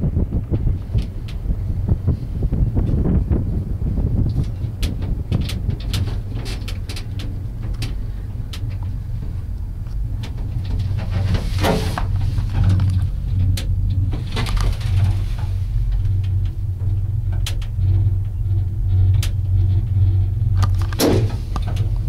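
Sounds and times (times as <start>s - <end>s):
low rumble in gondola cabin: 0.0s - 22.0s
light clicks and rattles: 0.4s - 22.0s
loud clatter: 4.2s - 22.0s.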